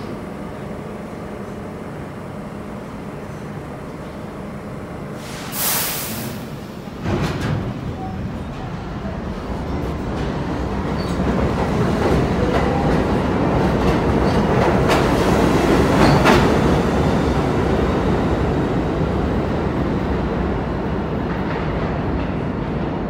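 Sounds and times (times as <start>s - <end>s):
subway train wheels clacking: 0.0s - 23.0s.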